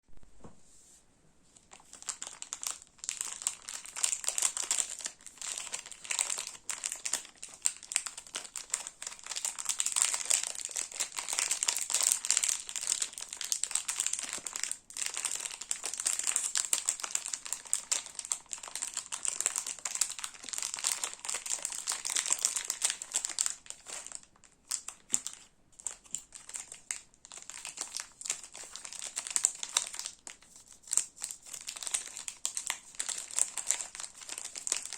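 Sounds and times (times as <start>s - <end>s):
plastic wrappers crinkling: 1.6s - 34.9s.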